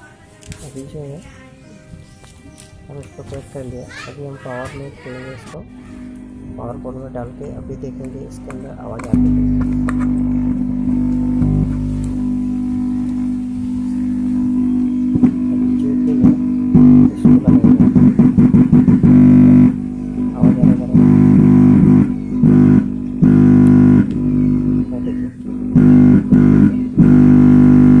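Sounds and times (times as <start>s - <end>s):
guitar and bass music on speakers: 0.0s - 28.0s.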